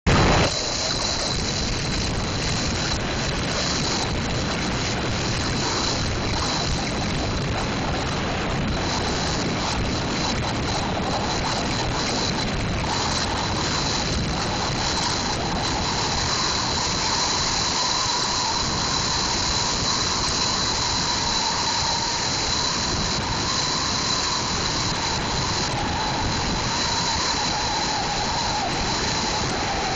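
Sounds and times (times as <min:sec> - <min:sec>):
wind roaring over microphone: 0:00.0 - 0:29.9.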